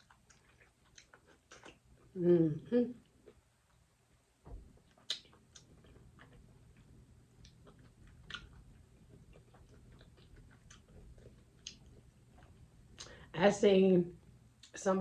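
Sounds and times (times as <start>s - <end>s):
soft chewing: 0.0s - 13.3s.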